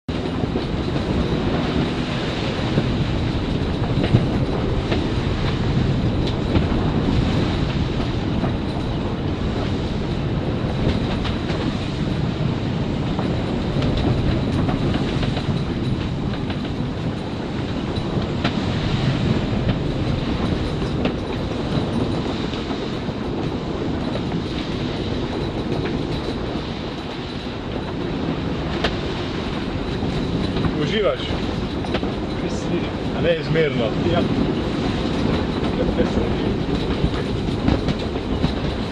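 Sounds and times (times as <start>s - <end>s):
wind and sea rushing: 0.0s - 38.9s.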